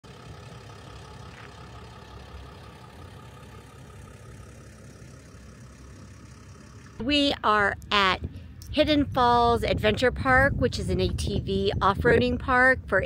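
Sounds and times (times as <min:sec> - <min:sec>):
distant vehicle engine rumble: 0:00.0 - 0:13.0.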